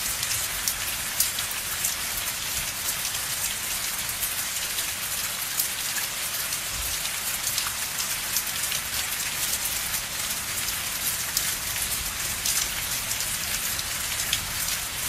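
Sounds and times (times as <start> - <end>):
rain falling: 0.0 - 15.0
raindrops ticking on a surface: 0.0 - 15.0.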